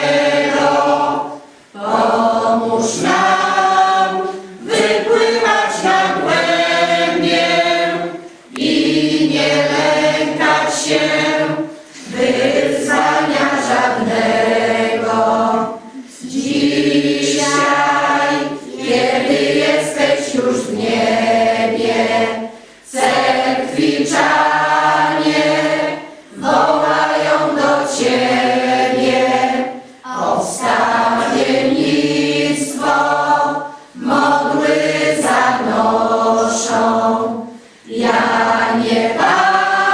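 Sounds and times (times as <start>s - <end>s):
choir singing unaccompanied: 0.0s - 39.9s.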